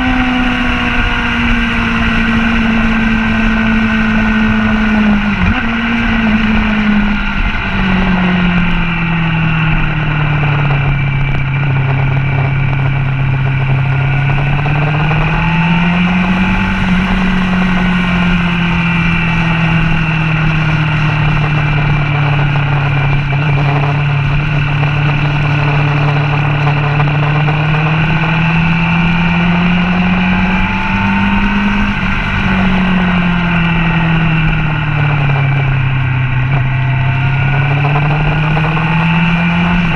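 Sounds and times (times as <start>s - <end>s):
motorcycle engine at speed: 0.0s - 39.9s
wind rush over microphone: 0.0s - 39.9s.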